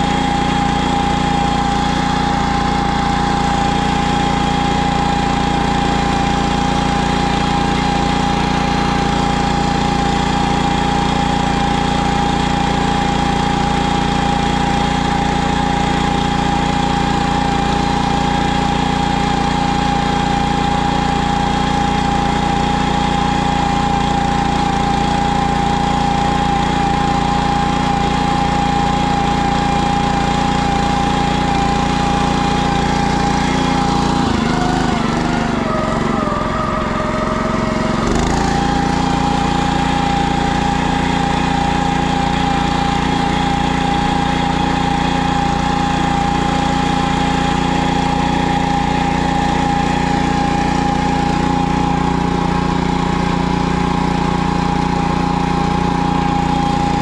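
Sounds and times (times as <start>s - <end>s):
ride-on mower engine running: 0.0s - 57.0s.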